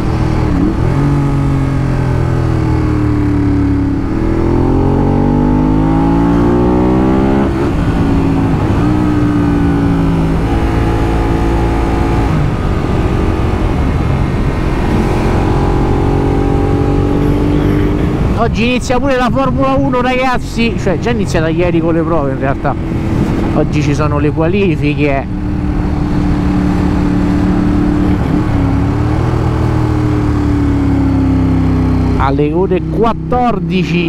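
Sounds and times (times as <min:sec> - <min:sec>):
motorcycle engine accelerating: 0:00.0 - 0:18.8, 0:19.4 - 0:34.0.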